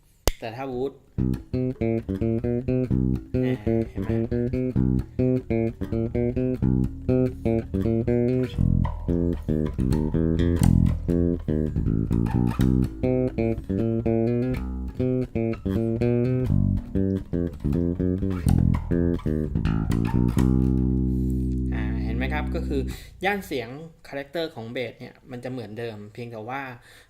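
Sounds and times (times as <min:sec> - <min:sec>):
electric bass guitar run: 0:01.2 - 0:23.5.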